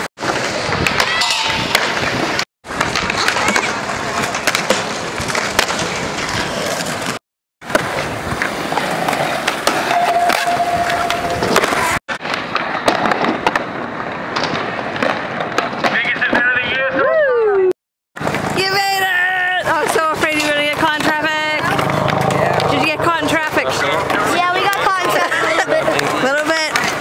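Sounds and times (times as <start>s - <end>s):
skateboard wheels rolling: 0.0s - 17.1s, 18.2s - 27.0s.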